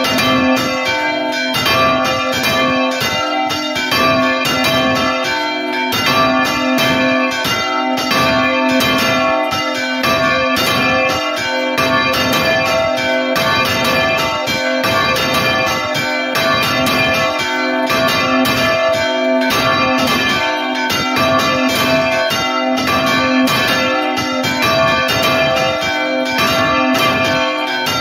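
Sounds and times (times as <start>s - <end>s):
church bell ringing: 0.0s - 28.0s.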